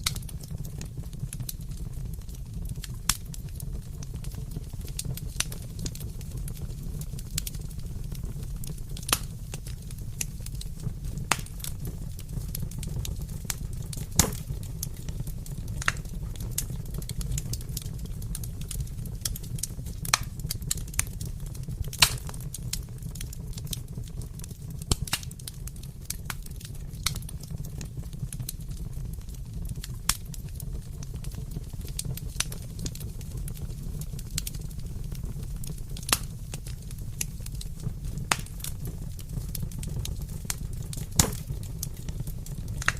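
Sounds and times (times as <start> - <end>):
fire rumbling: 0.0 - 42.9
wood crackling and popping: 0.0 - 42.9.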